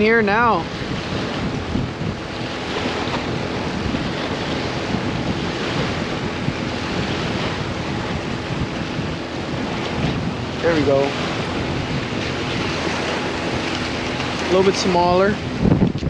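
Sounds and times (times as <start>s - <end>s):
waves washing ashore: 0.0s - 16.0s
wind buffeting microphone: 0.0s - 16.0s.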